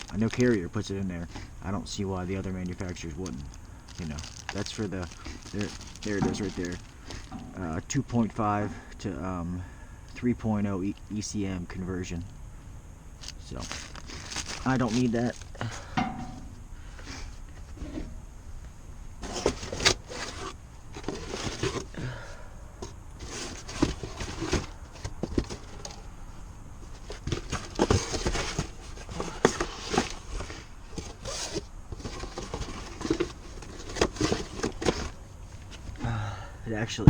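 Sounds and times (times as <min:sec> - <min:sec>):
parts and packaging being handled: 0:00.0 - 0:09.4, 0:13.1 - 0:36.1.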